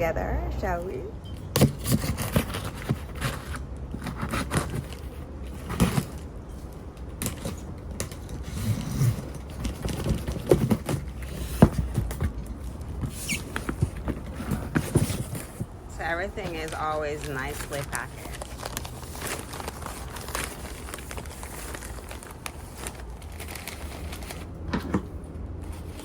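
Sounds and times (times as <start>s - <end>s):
cardboard crackling and rustling: 1.6s - 26.0s.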